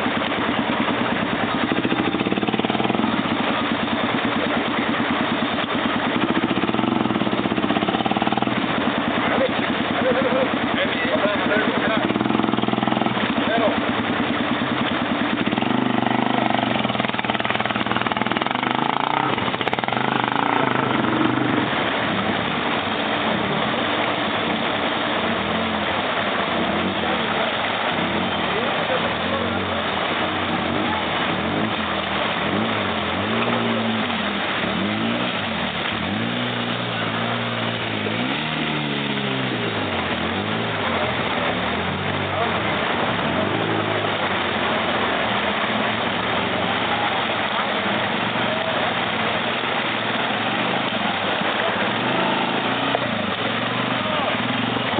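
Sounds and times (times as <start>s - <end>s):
atv engine running: 0.0s - 54.9s
constant rushing noise: 0.0s - 54.9s.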